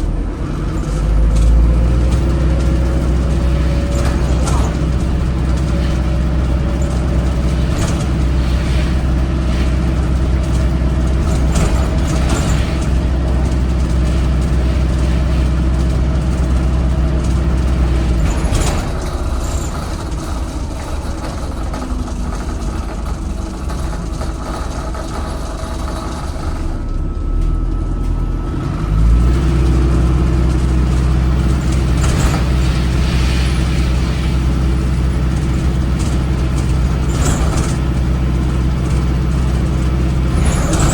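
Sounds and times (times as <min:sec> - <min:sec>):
bus diesel engine running hard: 0:00.0 - 0:40.9
knocks and rattles: 0:00.5 - 0:27.0, 0:29.7 - 0:33.3, 0:34.0 - 0:40.9.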